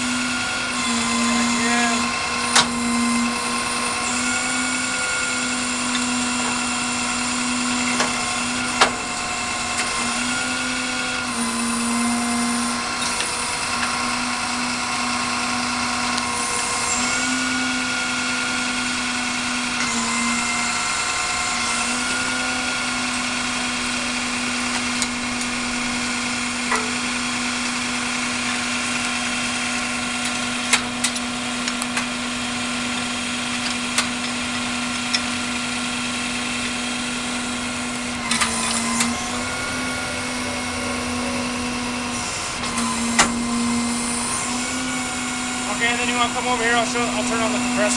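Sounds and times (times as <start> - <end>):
hydraulic pump whining: 0.0 - 47.9
truck engine running: 0.0 - 47.9.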